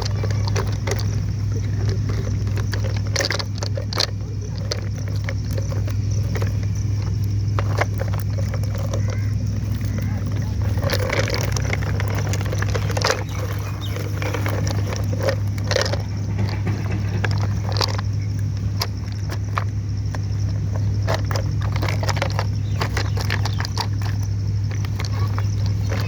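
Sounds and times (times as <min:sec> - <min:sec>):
clicks and knocks: 0:00.0 - 0:26.0
engine droning: 0:00.0 - 0:26.0.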